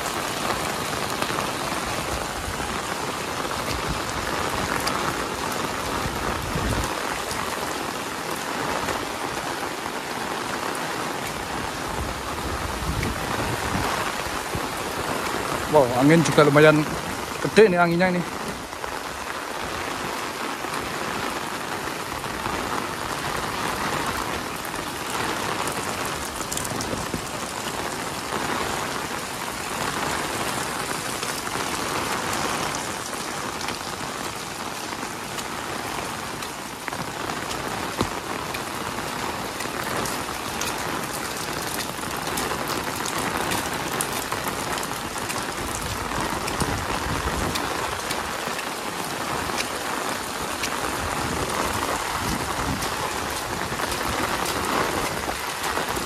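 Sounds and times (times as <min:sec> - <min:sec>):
heavy rain falling: 0:00.0 - 0:56.0
wind gusts: 0:00.0 - 0:56.0.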